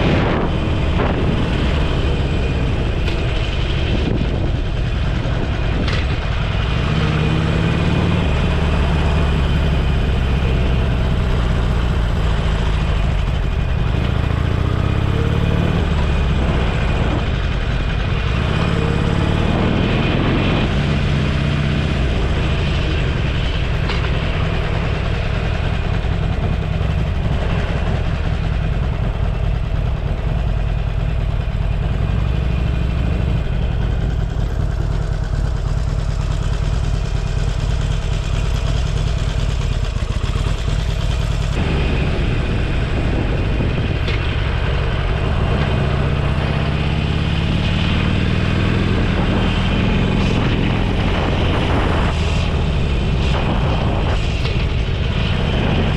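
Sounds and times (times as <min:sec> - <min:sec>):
motorcycle engine running: 0:00.0 - 0:55.9
wind rush on microphone: 0:00.0 - 0:55.9.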